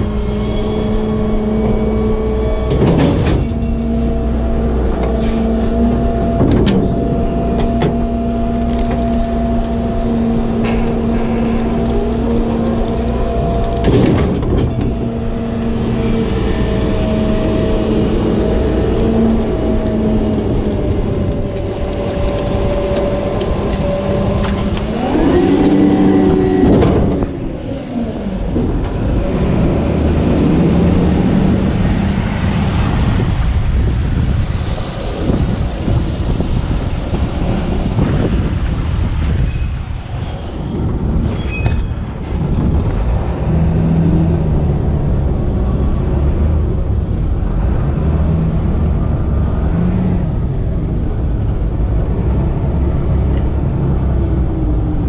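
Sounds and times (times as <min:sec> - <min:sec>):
garbage truck engine and hydraulics: 0:00.0 - 0:55.0.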